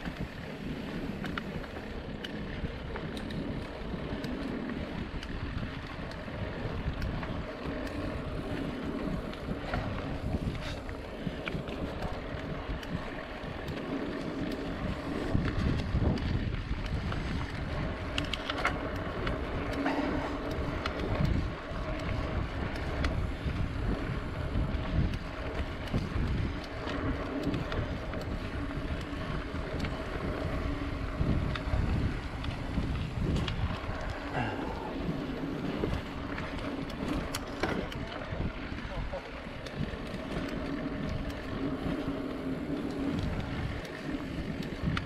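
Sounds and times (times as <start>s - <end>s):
bike clicks and rattles: 0.0s - 45.0s
bike tyres rumbling on dirt: 0.0s - 45.0s
wind buffeting microphone: 0.0s - 45.0s.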